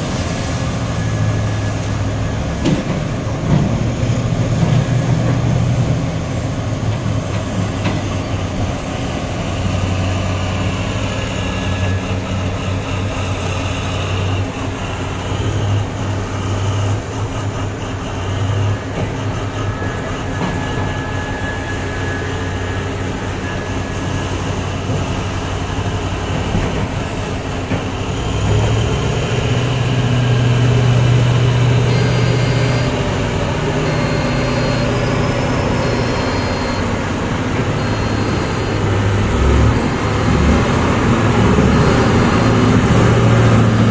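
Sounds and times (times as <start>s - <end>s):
deep diesel engine drone: 0.0s - 43.9s.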